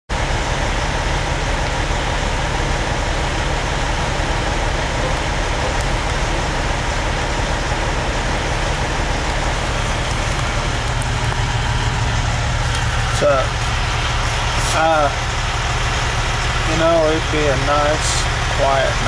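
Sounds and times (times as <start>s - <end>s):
diesel truck engine idling: 0.1s - 19.0s.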